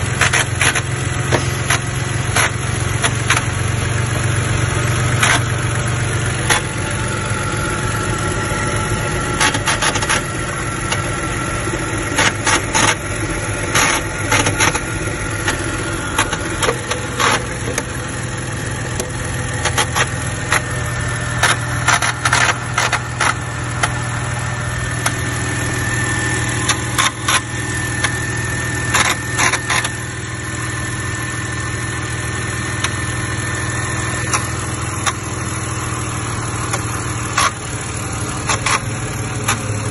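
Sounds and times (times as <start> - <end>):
car engine idling: 0.0 - 39.9
high steady whine: 0.0 - 39.9.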